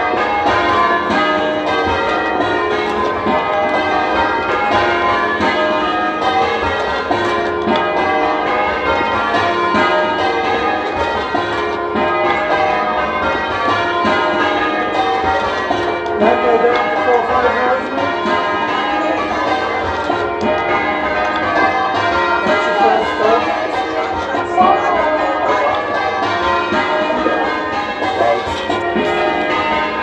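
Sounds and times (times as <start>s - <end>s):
church bells change ringing: 0.0s - 30.0s.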